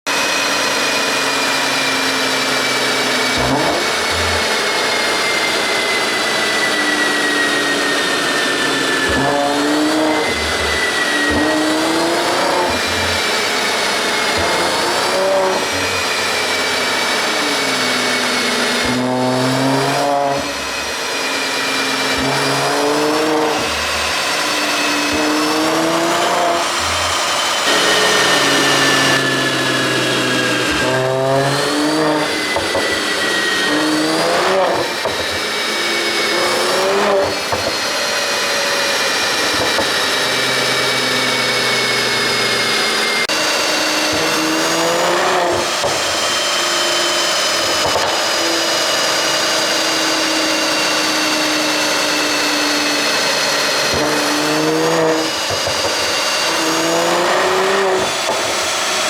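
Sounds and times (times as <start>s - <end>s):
car engine revving: 0.1s - 59.0s.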